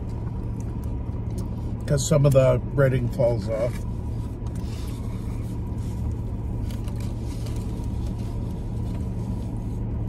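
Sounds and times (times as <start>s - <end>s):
car engine idling hum: 0.0s - 10.0s.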